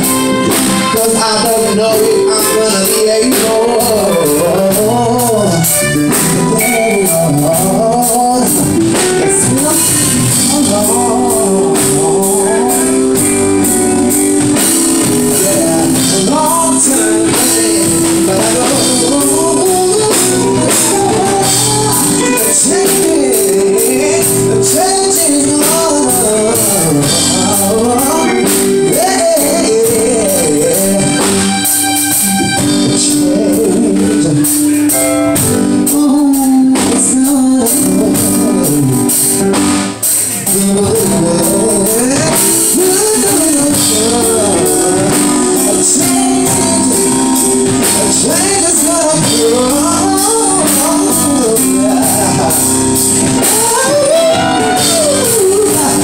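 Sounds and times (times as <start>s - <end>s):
lead singer singing: 0.0s - 56.0s
live band playing: 0.0s - 56.0s.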